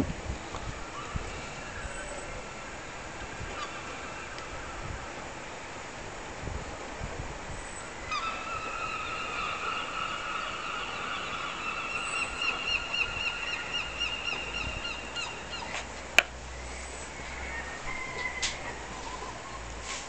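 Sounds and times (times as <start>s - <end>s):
gulls calling: 0.6s - 6.0s, 7.5s - 19.8s.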